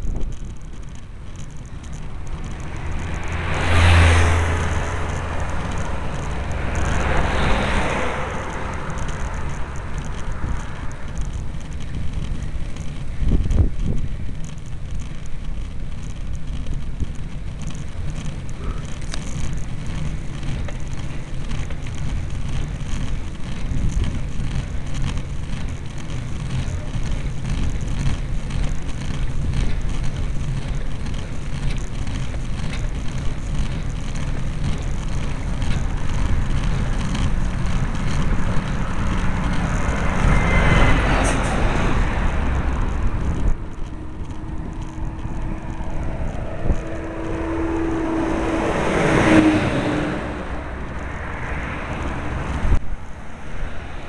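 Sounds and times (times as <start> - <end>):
motor vehicle rushing past: 0.0 - 14.0, 17.5 - 54.0
wind rushing over microphone: 0.0 - 15.1, 22.2 - 54.0
truck engine hum: 0.0 - 54.0.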